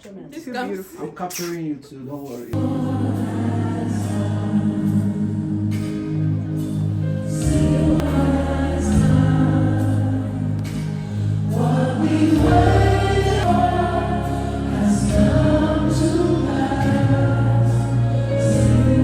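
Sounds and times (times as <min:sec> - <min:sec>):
choir singing held notes: 0:02.5 - 0:19.0
band with steady bass line: 0:02.6 - 0:19.0.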